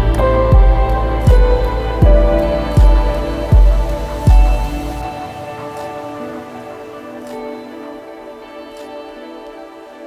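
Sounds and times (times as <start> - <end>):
calm instrumental music: 0.0 - 10.0.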